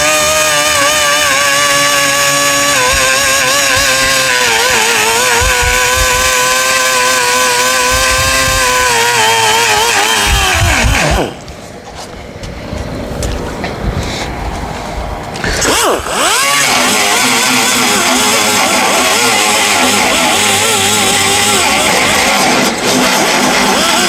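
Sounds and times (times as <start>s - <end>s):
air sander whining: 0.0s - 24.0s.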